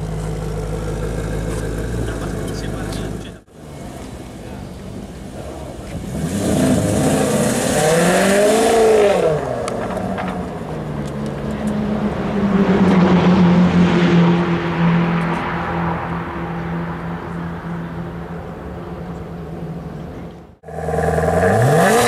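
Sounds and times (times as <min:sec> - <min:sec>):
car engine exhaust note: 0:00.0 - 0:09.6, 0:11.1 - 0:22.0.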